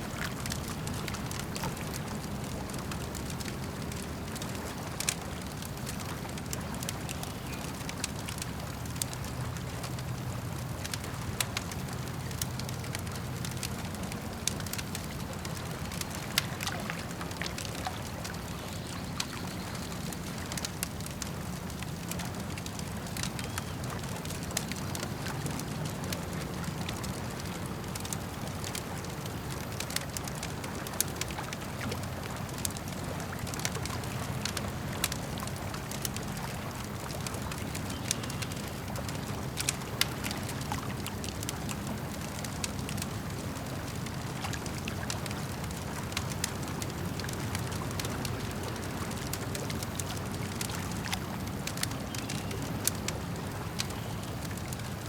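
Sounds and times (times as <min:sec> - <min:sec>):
campfire crackling and popping: 0:00.0 - 0:55.0
lake water lapping: 0:00.0 - 0:55.0.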